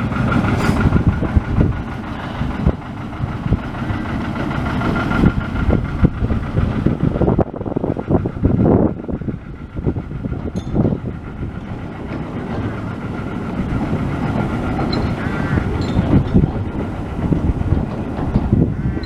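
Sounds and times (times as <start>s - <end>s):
locomotive engine rumbling: 0.0s - 19.0s.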